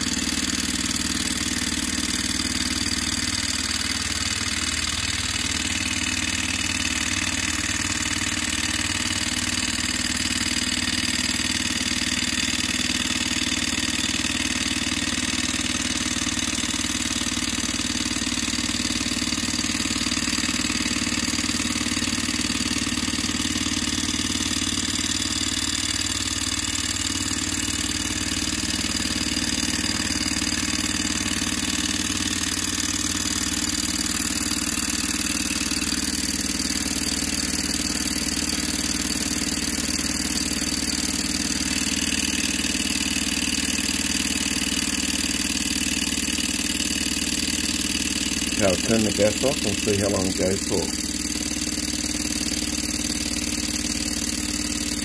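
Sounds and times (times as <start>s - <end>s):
hot-air engine running: 0.0s - 53.8s.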